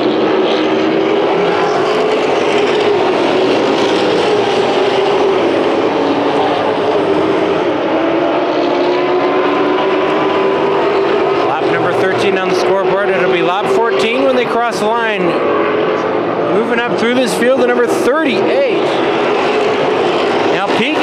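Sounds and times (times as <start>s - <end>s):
race truck engines roaring: 0.0s - 21.0s.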